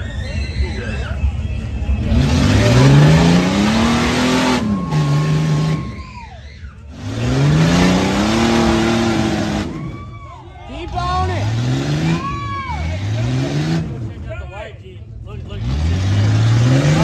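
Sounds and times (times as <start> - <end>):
off-road vehicle engine revving: 1.4 - 6.1, 6.9 - 17.0.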